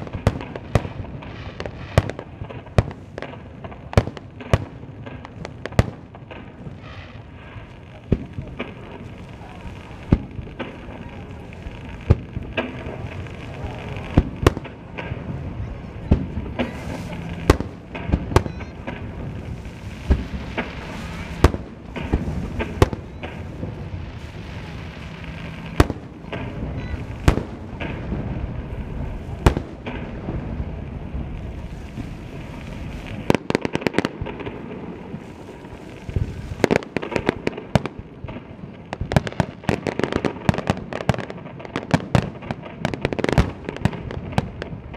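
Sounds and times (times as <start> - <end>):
fireworks bursting with echo: 0.0 - 44.9.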